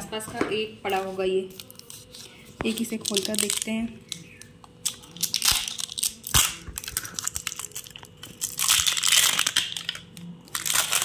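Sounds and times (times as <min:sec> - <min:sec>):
plastic wrap crinkling and tearing: 0:01.4 - 0:11.0.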